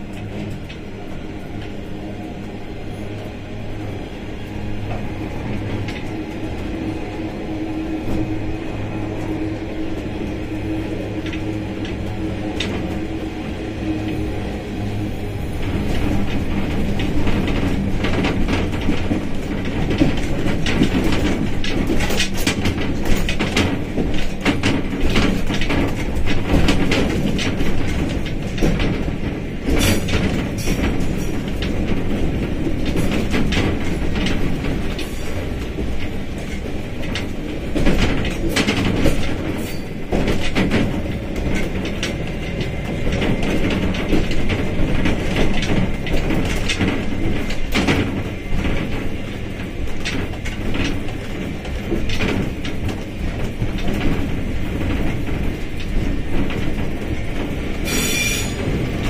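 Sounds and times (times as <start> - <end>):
train rumbling: 0.0 - 59.0
wheels clacking over rails: 0.0 - 59.0.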